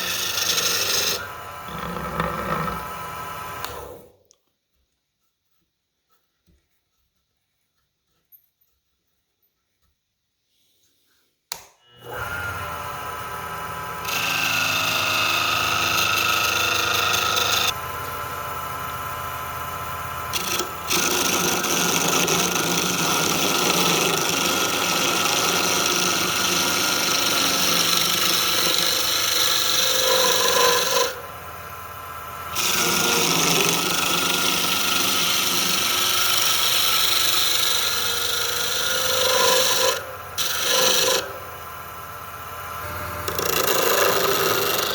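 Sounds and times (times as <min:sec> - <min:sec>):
power tool running: 0:00.0 - 0:04.1, 0:11.9 - 0:44.9.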